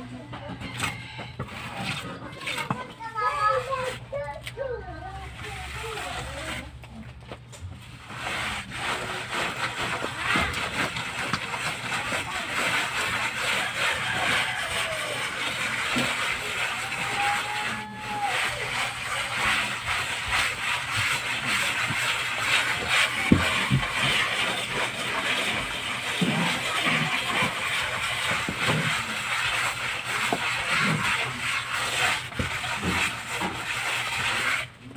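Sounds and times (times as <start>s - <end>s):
hand tool scraping a plaster wall: 0.0s - 7.0s, 7.8s - 34.9s.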